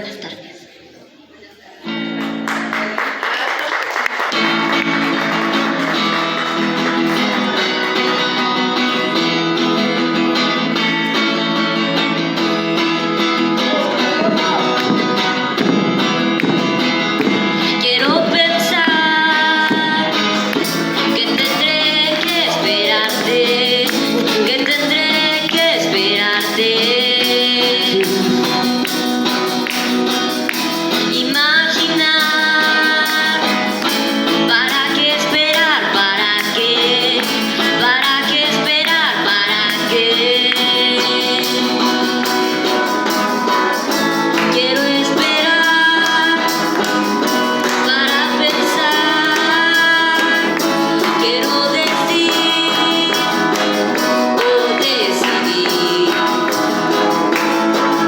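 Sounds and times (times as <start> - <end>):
strummed guitar: 1.8 - 3.2, 4.0 - 58.0
person singing: 4.2 - 58.0.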